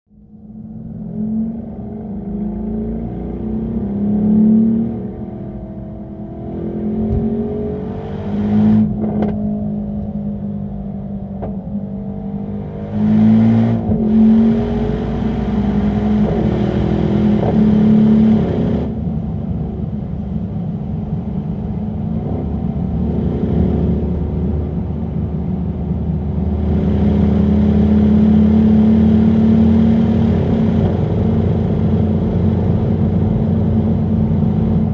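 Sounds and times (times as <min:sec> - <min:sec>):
car engine accelerating through gears: 0:00.3 - 0:34.9.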